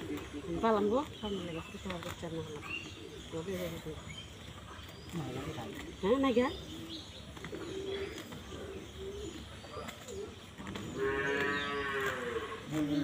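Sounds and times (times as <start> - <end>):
farm animals calling: 0.0 - 13.0.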